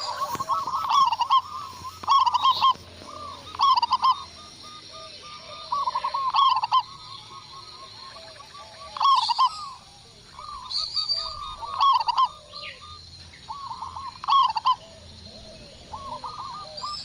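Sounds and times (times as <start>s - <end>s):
dove cooing in staccato bursts: 0.0s - 17.0s
faint lower-pitched dove cooing: 0.0s - 17.0s.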